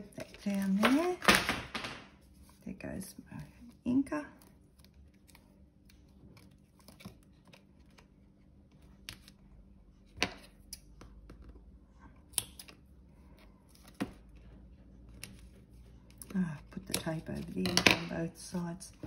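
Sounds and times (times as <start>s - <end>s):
tape and paper handling: 0.0s - 2.7s, 3.3s - 11.2s, 12.5s - 19.0s.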